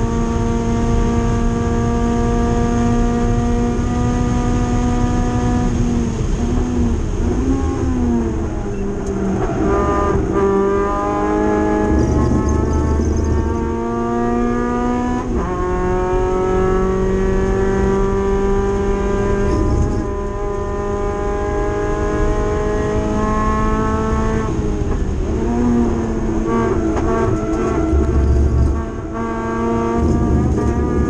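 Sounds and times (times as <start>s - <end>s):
race car engine accelerating: 0.0s - 31.0s.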